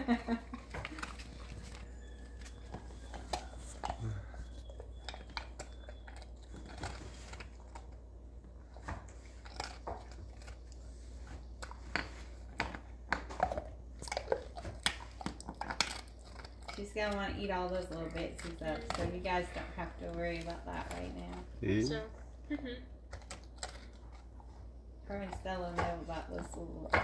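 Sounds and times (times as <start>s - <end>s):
dog crunching a cookie: 0.1s - 27.0s.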